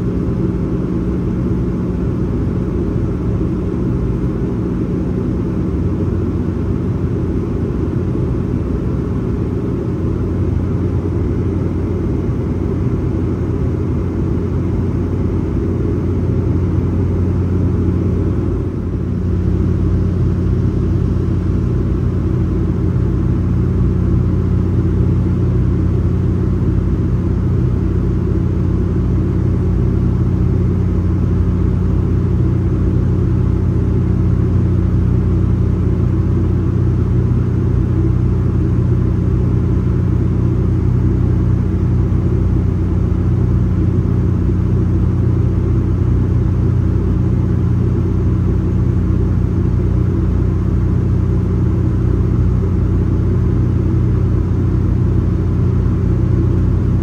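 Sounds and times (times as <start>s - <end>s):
turboprop cabin drone: 0.0s - 57.0s.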